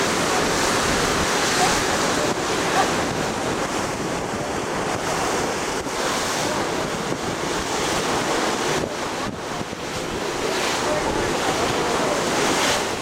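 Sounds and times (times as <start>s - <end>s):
sea water rushing: 0.0s - 13.0s
wind buffeting microphone: 0.0s - 13.0s.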